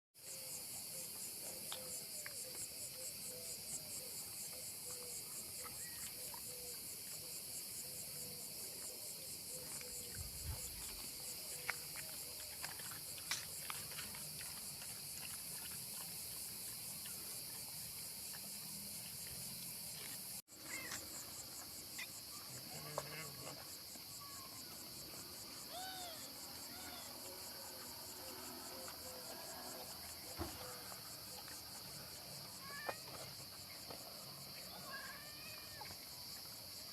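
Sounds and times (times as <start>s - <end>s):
insects chirping: 0.2s - 36.9s.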